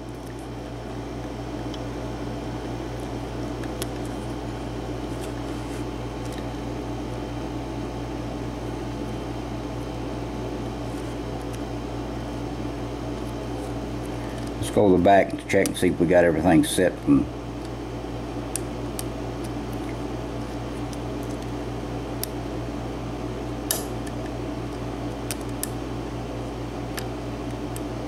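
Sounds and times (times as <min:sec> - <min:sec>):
air conditioner humming: 0:00.0 - 0:28.0.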